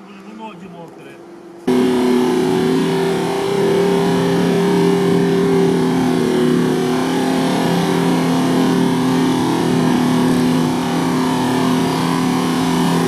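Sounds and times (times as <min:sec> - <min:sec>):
engine at steady revs: 0:01.3 - 0:13.0
wheels churning mud and water: 0:01.7 - 0:13.0.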